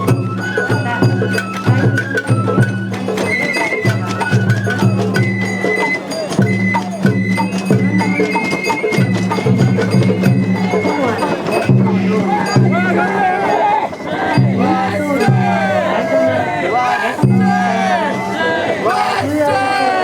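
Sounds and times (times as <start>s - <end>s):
taiko drum strokes: 0.0s - 16.4s, 17.1s - 19.3s
bamboo flute playing: 0.0s - 20.0s
clacking percussion: 0.0s - 20.0s.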